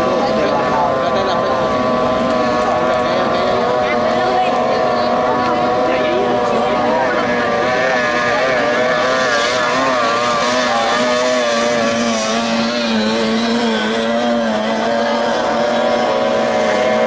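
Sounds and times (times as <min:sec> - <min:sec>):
outboard boat engine at speed: 0:00.0 - 0:17.0.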